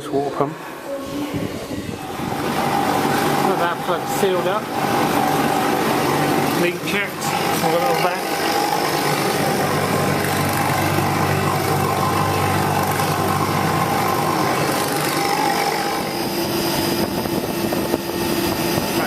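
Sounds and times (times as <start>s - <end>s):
broad rushing noise: 0.0s - 19.0s
refrigeration unit humming: 0.0s - 19.0s.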